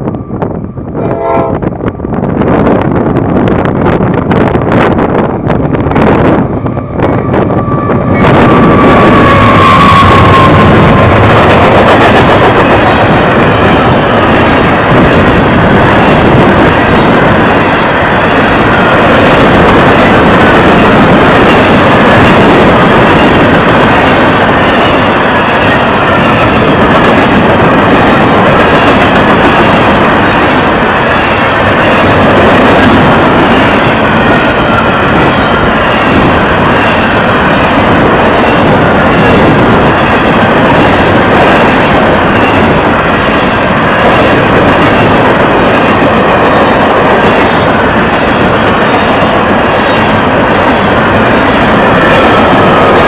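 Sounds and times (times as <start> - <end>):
diesel locomotives passing: 0.0 - 53.0
train wheels clattering on rail: 2.1 - 53.0.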